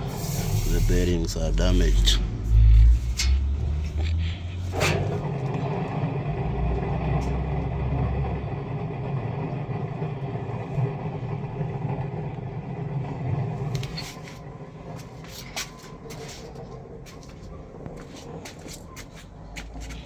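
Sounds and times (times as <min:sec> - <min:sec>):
washing machine drum bearing noise: 0:00.0 - 0:20.0.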